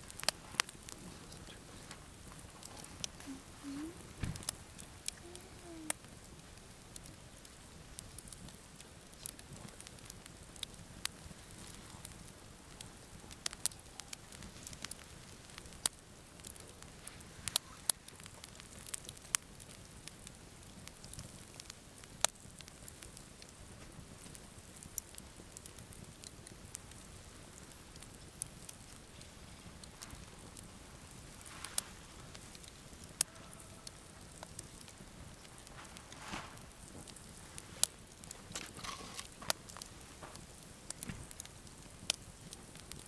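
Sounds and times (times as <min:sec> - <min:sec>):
campfire crackling and popping: 0:00.0 - 0:43.0
low steady rustle of fire: 0:00.0 - 0:43.0.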